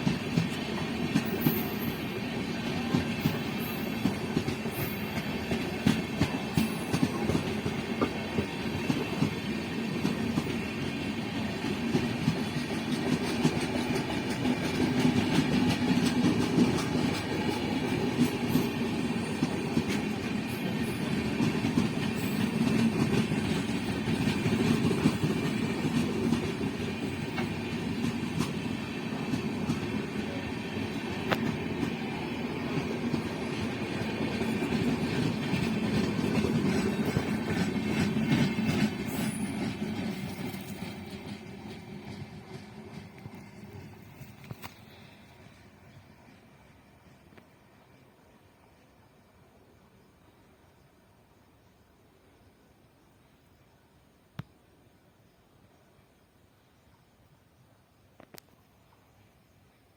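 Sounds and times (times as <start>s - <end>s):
train rumble: 0.0s - 49.8s.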